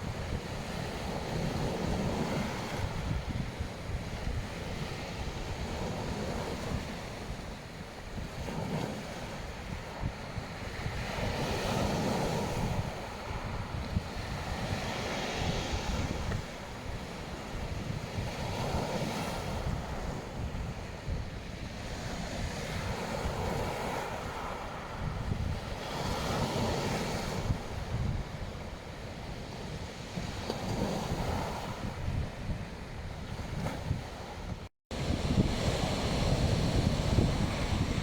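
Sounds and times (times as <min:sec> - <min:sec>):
waves washing onto a beach: 0:00.0 - 0:38.0
wind buffeting microphone: 0:00.0 - 0:38.0.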